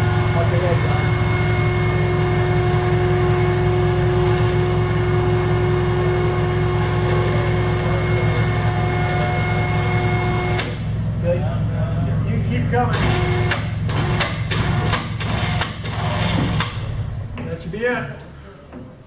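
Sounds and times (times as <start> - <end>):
machine whine: 0.0 - 11.1, 11.9 - 17.4
machine low hum: 0.0 - 19.0.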